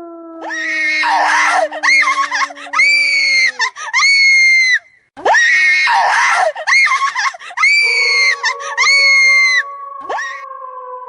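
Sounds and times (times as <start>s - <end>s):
shrill high-pitched screams: 0.4s - 10.4s.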